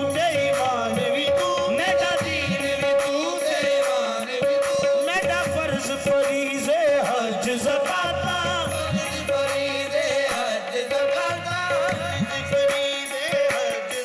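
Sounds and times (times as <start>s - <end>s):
ornamented vocal melody: 0.0s - 14.0s.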